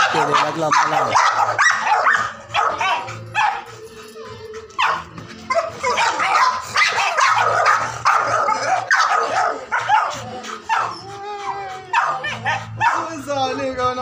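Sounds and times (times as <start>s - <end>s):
dog barking and yipping: 0.0s - 3.9s, 4.7s - 11.0s, 11.9s - 13.2s
music playing: 0.0s - 14.0s.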